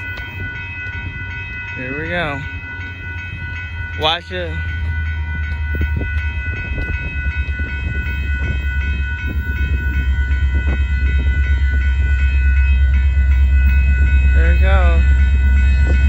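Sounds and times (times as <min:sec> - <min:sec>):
freight train rumble: 0:00.0 - 0:16.0
railroad crossing bells ringing: 0:00.0 - 0:16.0.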